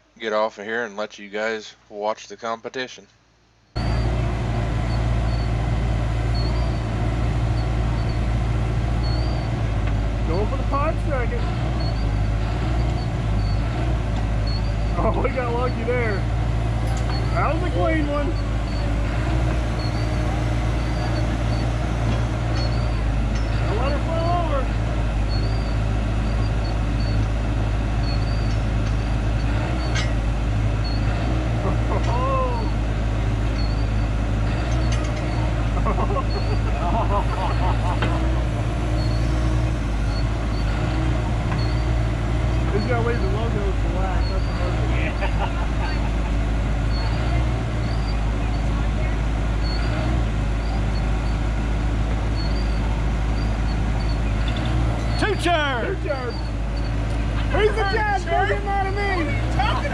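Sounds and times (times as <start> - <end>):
excavator diesel engine running: 3.8 - 59.9.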